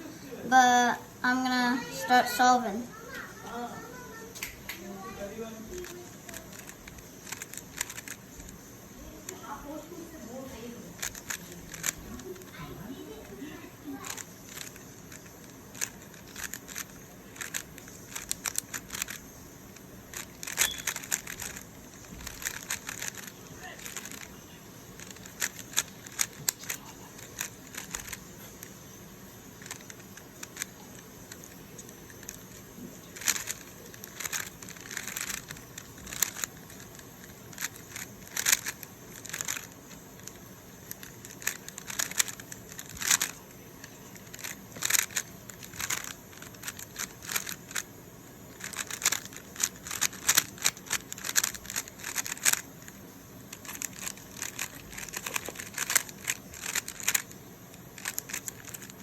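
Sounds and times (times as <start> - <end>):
puzzle cube clicking and rattling: 1.2 - 2.8, 4.4 - 59.0.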